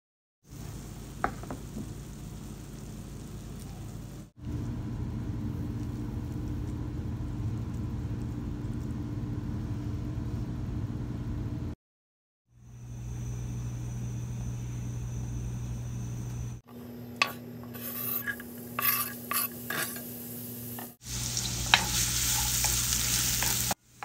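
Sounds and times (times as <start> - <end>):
low machine hum: 1.9 - 11.8, 12.6 - 24.0.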